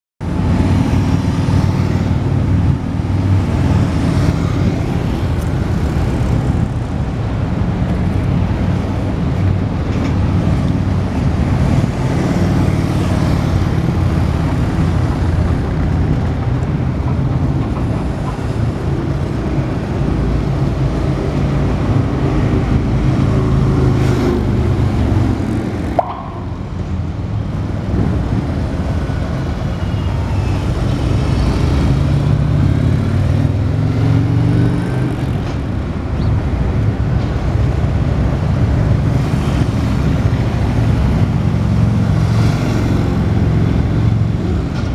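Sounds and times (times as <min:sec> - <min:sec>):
road noise of vehicles: 0:00.2 - 0:44.9.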